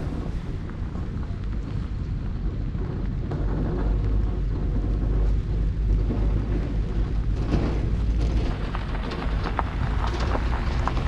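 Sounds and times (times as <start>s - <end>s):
sharp crackles: 0.0s - 11.0s
wind buffeting microphone: 0.0s - 11.0s.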